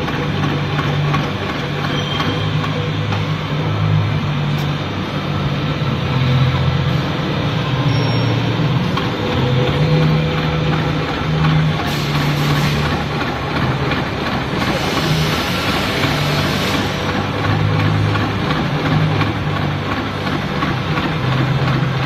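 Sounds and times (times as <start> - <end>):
low motor hum: 0.0 - 22.0
machine mechanical clatter: 0.0 - 22.0.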